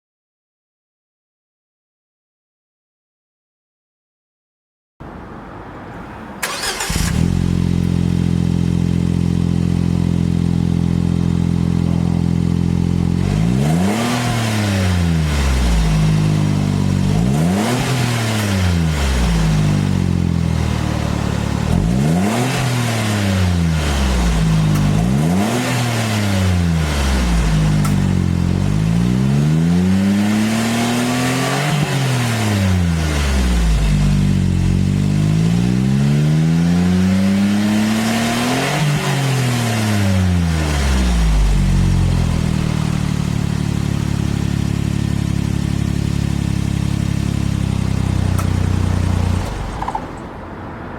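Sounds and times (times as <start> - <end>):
car engine idling and revving: 5.0 - 50.9.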